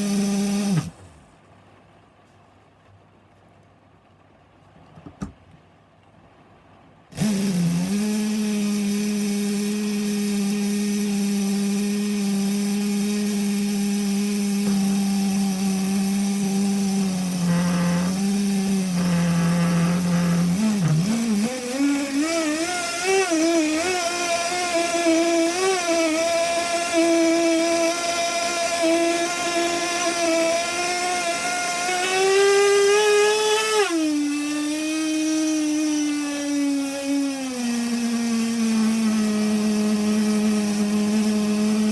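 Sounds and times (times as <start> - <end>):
small nitro engine whining: 0.0 - 1.2, 7.2 - 41.9.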